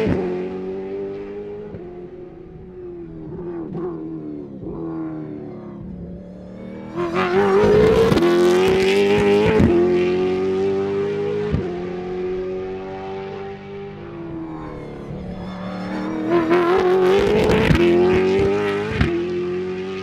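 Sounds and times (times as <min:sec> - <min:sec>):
racing car engine at high revs: 0:00.0 - 0:20.0.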